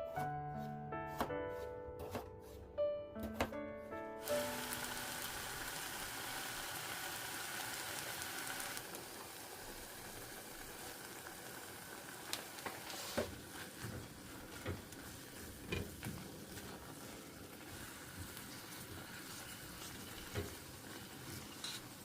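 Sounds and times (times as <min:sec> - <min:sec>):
food sizzling in a frying pan: 0:04.2 - 0:22.0.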